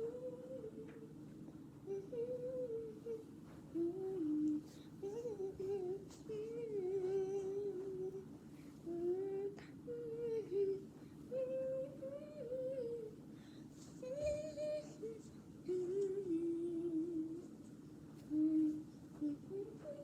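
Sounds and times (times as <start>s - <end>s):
person humming a tune: 0.0s - 1.2s, 1.8s - 13.2s, 14.0s - 17.5s, 18.3s - 20.0s.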